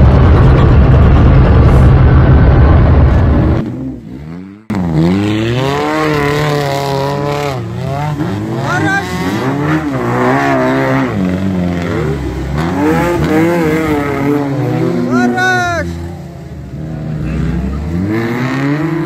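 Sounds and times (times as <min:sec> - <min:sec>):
car engine revving in mud: 0:00.0 - 0:19.0.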